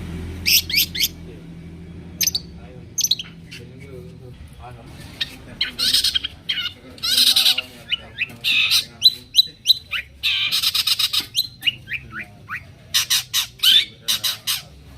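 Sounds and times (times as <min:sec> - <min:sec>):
bird singing harsh rasping calls: 0:00.3 - 0:03.8, 0:04.8 - 0:14.9.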